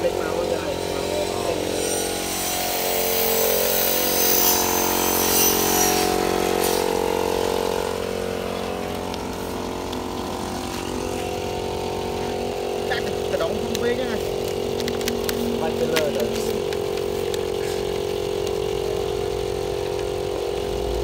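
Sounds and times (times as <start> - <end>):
machine motor humming: 0.0 - 21.0.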